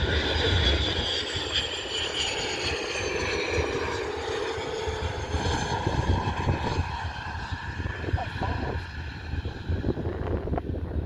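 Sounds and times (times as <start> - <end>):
jet engines during takeoff: 0.0 - 11.0.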